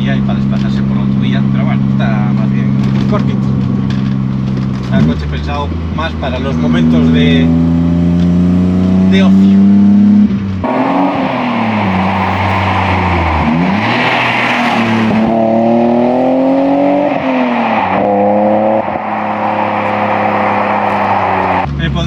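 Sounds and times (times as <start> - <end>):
car engine revving and accelerating: 0.0 - 21.7.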